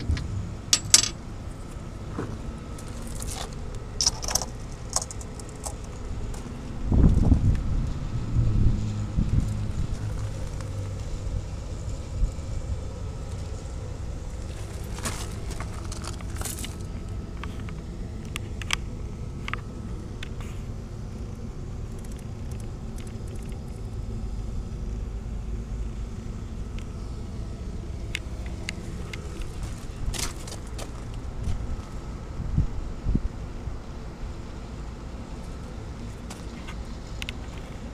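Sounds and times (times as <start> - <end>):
diesel generator droning: 0.0 - 37.9.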